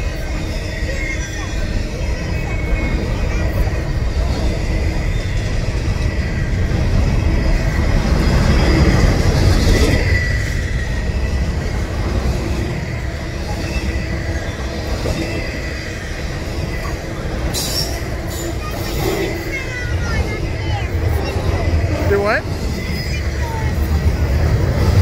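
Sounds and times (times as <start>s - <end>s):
high wheel squeal: 0.0s - 25.0s
steel wheels rumbling on rails: 0.0s - 25.0s.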